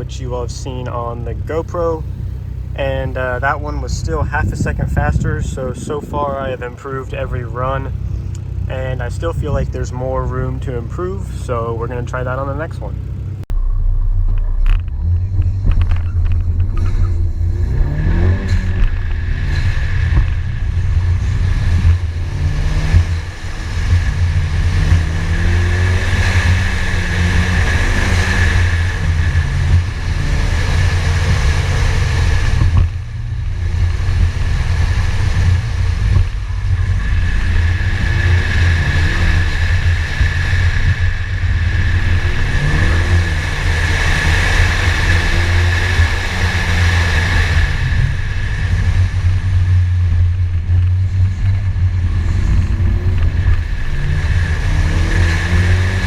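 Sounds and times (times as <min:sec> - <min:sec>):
car engine revving: 0:00.0 - 0:56.0
high whine: 0:00.0 - 0:56.0.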